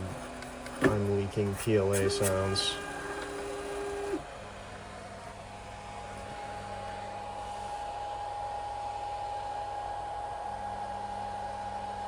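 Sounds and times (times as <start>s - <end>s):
fan whirring: 0.0s - 12.0s
steady whine: 0.0s - 12.0s.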